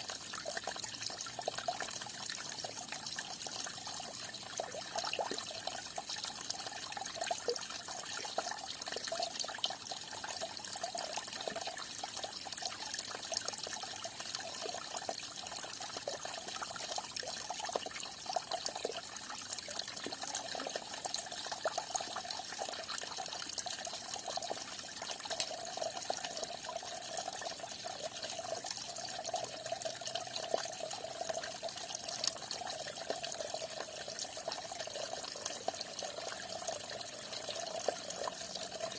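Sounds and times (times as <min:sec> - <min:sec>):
water splashing and trickling: 0:00.0 - 0:38.9.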